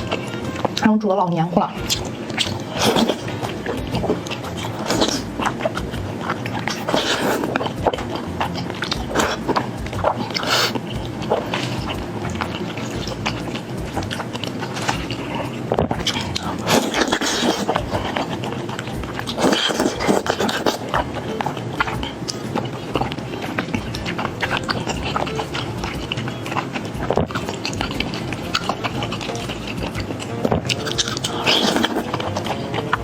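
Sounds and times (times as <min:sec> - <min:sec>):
person chewing noodles: 0:01.8 - 0:33.0.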